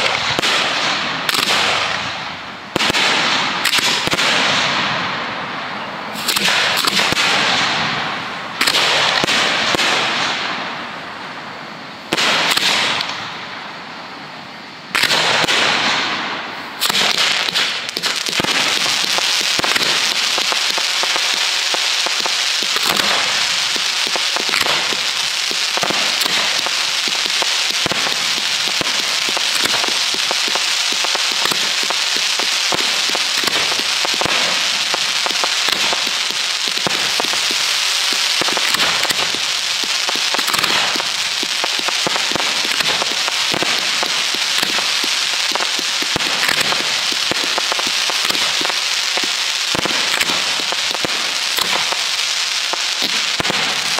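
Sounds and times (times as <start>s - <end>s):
fireworks bursts: 0.0s - 53.9s
fireworks crackling and popping: 0.0s - 53.9s.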